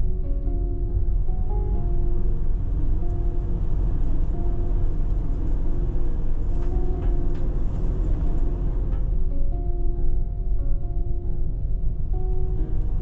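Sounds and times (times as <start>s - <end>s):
soft background music: 0.0s - 13.0s
vehicle driving rumble: 0.0s - 13.0s.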